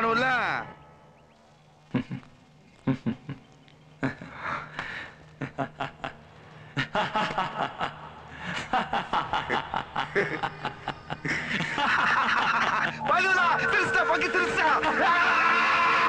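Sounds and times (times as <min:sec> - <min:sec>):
man laughing: 0:01.9 - 0:04.7, 0:05.4 - 0:16.0.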